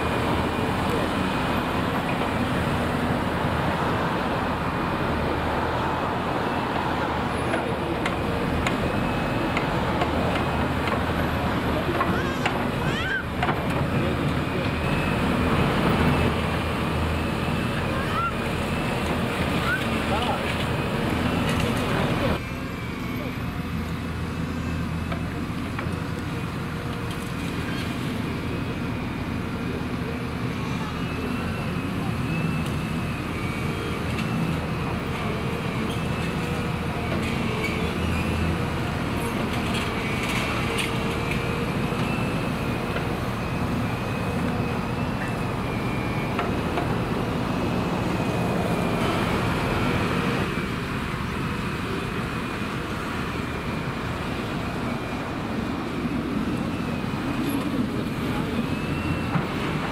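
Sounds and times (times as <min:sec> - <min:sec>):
diesel excavators running: 0:00.0 - 0:59.9.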